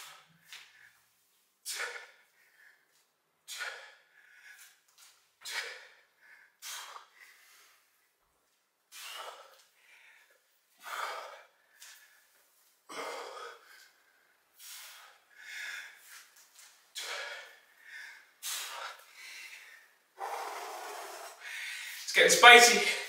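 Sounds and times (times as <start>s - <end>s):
man breathing hard: 0.0s - 1.0s, 1.6s - 8.0s, 8.9s - 22.1s.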